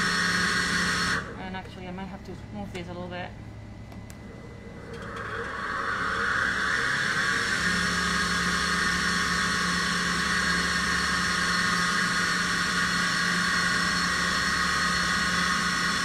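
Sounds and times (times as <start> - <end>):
loud mechanical whine: 0.0 - 1.6, 3.5 - 16.0.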